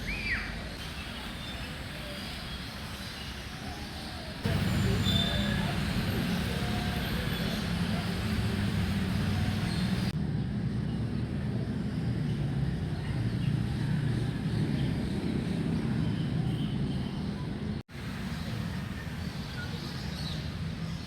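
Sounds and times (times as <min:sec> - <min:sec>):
low rumble of city traffic: 0:00.0 - 0:21.0.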